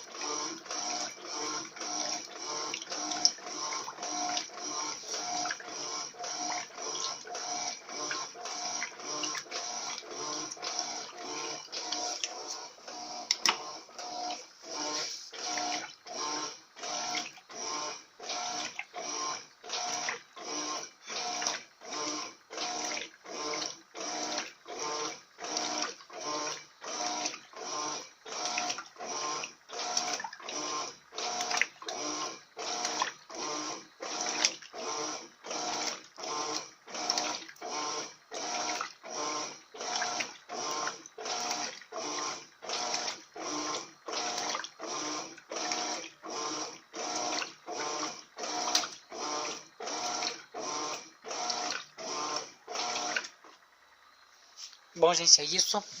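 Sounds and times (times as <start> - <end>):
washing machine agitating: 0.0 - 54.0, 54.8 - 56.0.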